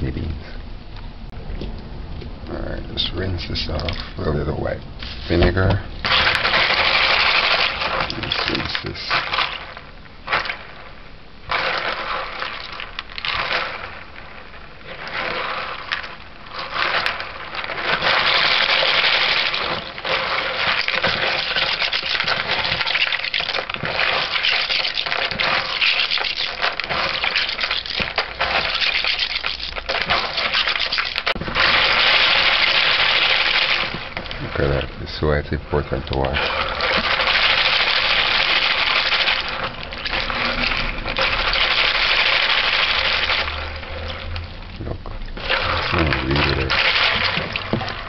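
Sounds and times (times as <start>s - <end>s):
beans clattering in water: 3.5s - 48.0s
water sloshing in a bowl: 6.0s - 48.0s.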